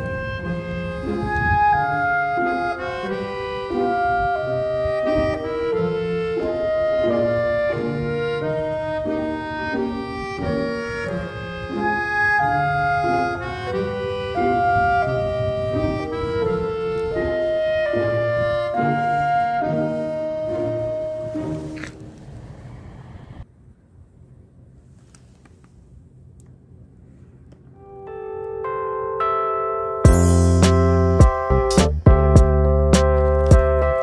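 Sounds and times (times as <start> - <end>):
instrumental background music: 0.0 - 21.9, 27.9 - 34.0.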